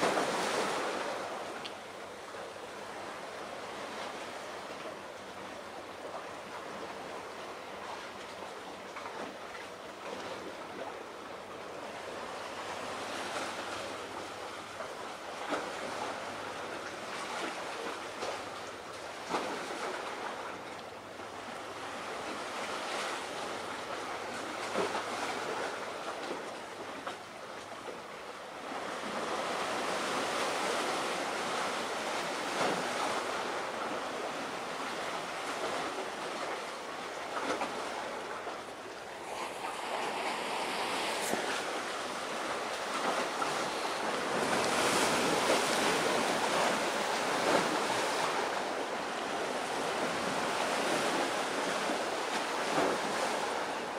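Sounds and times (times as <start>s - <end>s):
sea waves washing: 0.0s - 27.3s, 27.9s - 53.9s.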